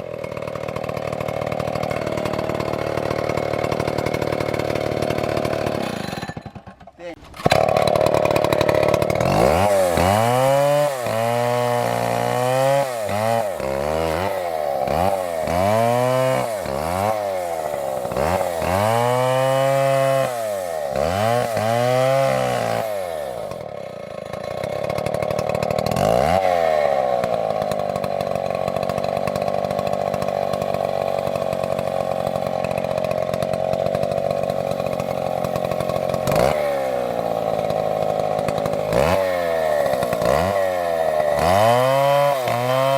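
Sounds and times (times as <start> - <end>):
chainsaw engine revving: 0.0 - 42.9.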